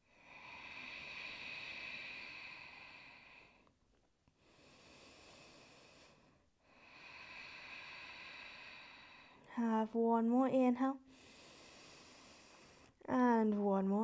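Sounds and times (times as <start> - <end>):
person breathing slowly: 0.0 - 9.5, 11.0 - 13.0.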